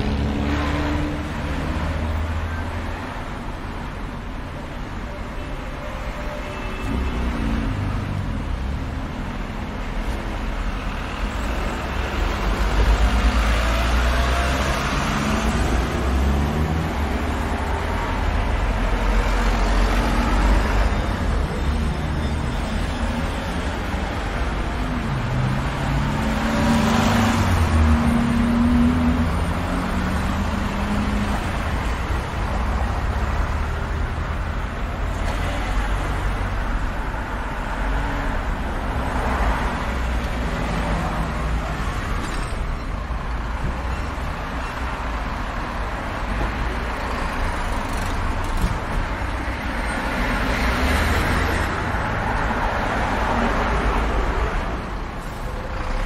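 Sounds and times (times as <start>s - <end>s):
cars passing by: 0.0s - 56.0s
road traffic rumble: 0.0s - 56.0s.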